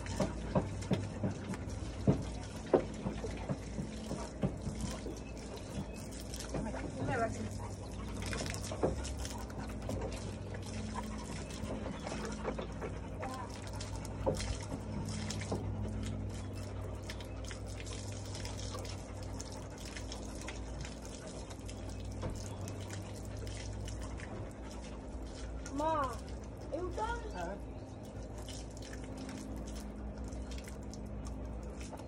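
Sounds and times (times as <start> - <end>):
garden hose spraying water: 0.0 - 32.0
steady low hum: 0.0 - 32.0
water splashing on concrete: 0.0 - 32.0.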